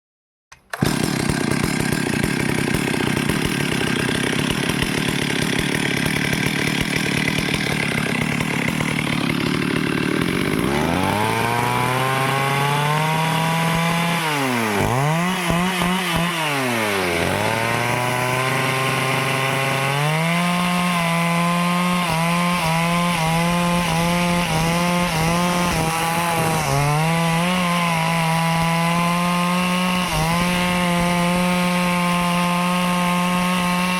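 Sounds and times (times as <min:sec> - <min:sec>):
chainsaw cutting wood: 0:00.5 - 0:33.9.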